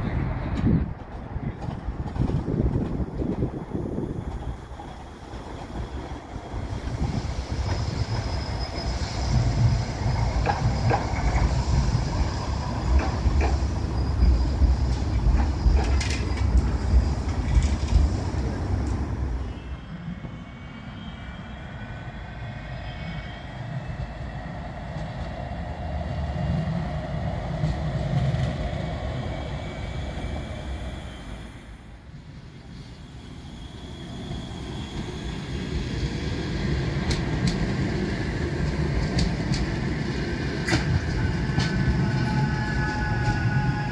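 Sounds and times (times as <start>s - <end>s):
tram wheels rumbling on rails: 0.0s - 43.9s
tram whine: 0.0s - 43.9s.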